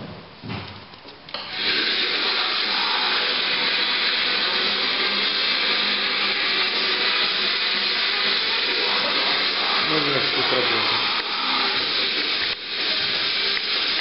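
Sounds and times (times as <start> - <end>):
loud noisy music through speakers: 1.5 - 14.0.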